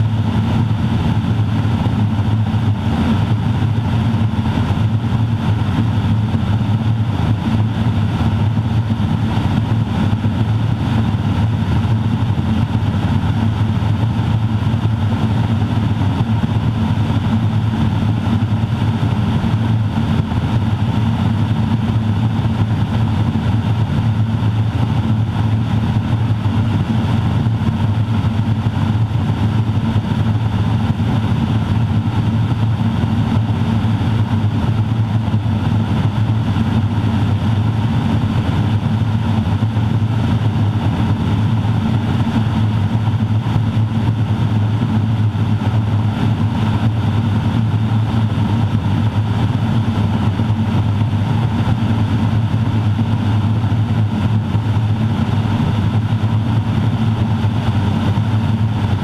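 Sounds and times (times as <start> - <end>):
turboprop engine and propeller humming: 0.0 - 59.0.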